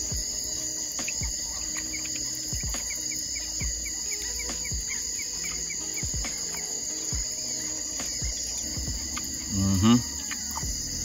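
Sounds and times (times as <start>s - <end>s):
crickets and insects droning: 0.0s - 11.0s.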